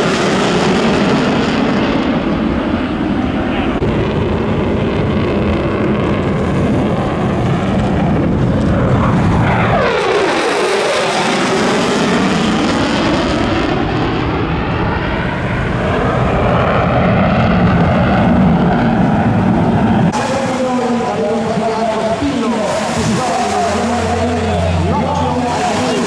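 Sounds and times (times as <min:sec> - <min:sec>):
military jet flypast: 0:00.0 - 0:26.0.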